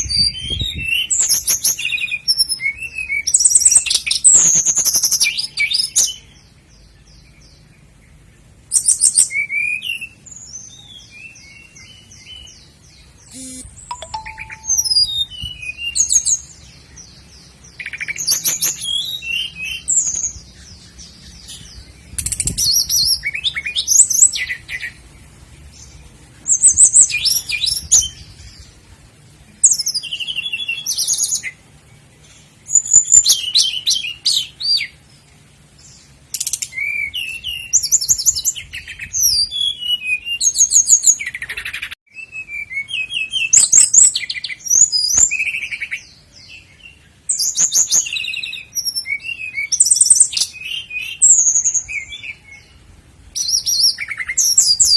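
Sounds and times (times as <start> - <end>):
nightingale singing: 0.0 - 28.8, 29.5 - 54.9.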